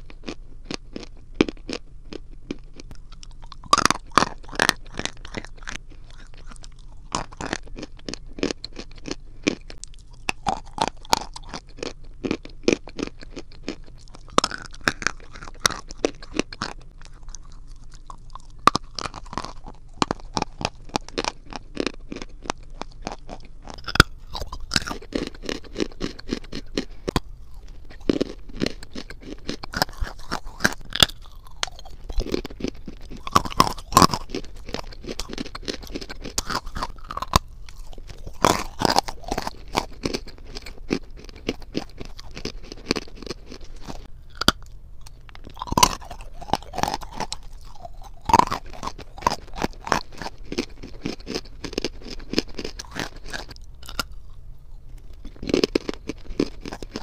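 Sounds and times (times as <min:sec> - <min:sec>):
chewing crunchy chalk: 0:00.0 - 0:57.0.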